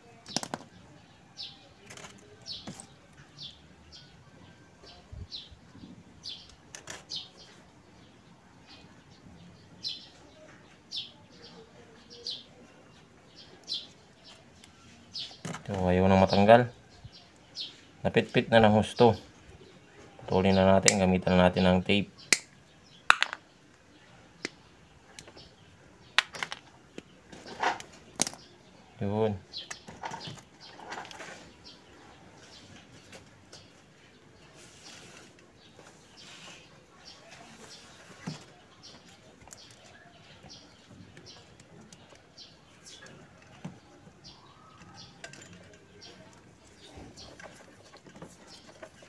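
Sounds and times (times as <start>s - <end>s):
small bird chirping: 0.0s - 49.0s.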